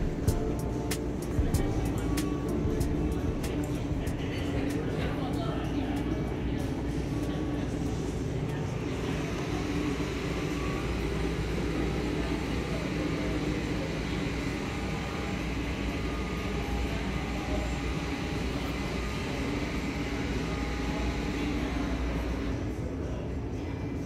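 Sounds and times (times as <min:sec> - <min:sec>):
low store background rumble: 0:00.0 - 0:24.0.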